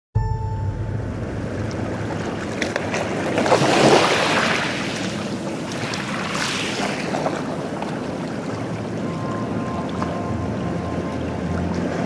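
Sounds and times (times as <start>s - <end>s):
sea waves breaking ashore: 0.8s - 12.0s.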